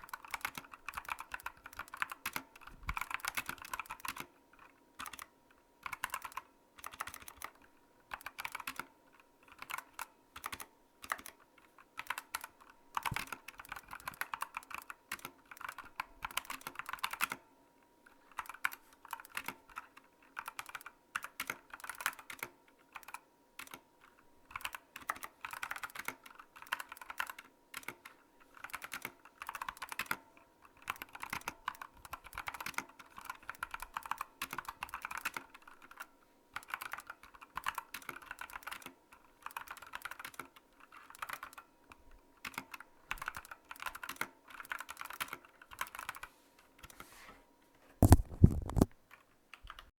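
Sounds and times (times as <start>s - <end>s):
mechanical keyboard typing: 0.0s - 17.5s, 18.1s - 41.7s, 42.4s - 47.0s, 48.0s - 49.9s.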